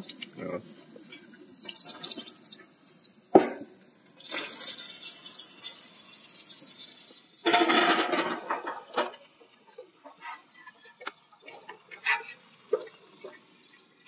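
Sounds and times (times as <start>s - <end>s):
hot oil hissing in a pot: 0.0s - 10.2s, 10.9s - 14.0s
vegetables sizzling in oil: 0.0s - 14.0s.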